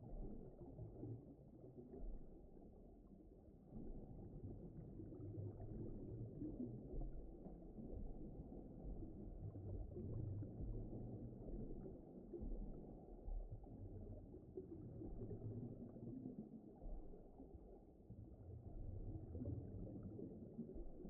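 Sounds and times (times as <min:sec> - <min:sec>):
low muffled underwater rumble: 0:00.0 - 0:21.0.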